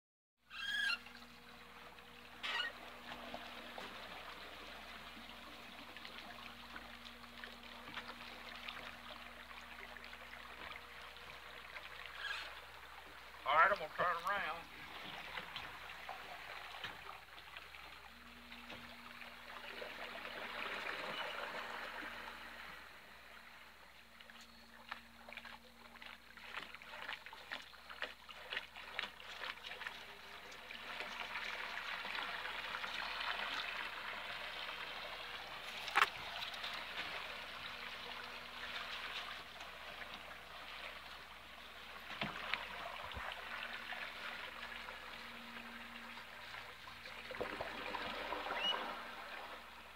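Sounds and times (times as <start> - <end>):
water splashing and lapping: 0.4 - 49.9
faint motor hum: 0.5 - 49.9.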